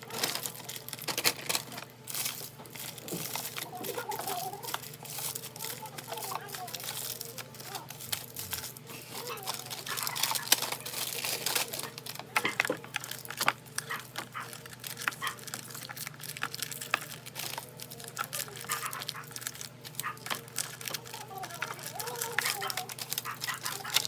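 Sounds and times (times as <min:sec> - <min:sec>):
food packaging crinkling: 0:00.0 - 0:24.0.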